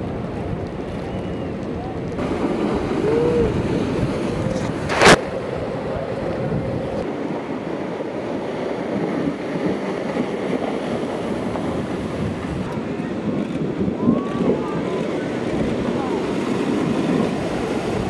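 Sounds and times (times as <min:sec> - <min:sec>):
ocean surf breaking: 0:00.0 - 0:18.0
wind on microphone: 0:00.0 - 0:18.0.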